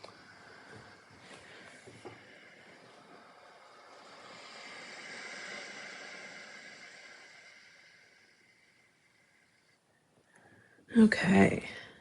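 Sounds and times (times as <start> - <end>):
faint rushing noise: 0.0 - 9.9.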